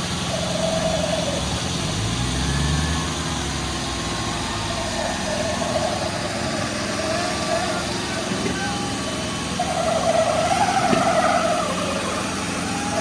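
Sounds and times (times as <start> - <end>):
diesel tractor engines running: 0.0 - 13.0.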